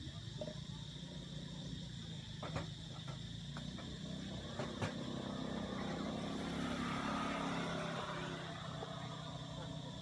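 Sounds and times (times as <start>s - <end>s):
vehicle engine humming: 0.6s - 10.0s.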